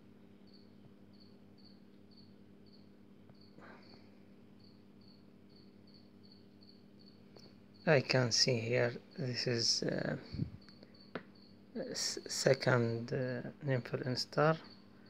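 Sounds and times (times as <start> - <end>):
cricket chirping: 0.0 - 15.0
low steady hum: 0.0 - 15.0.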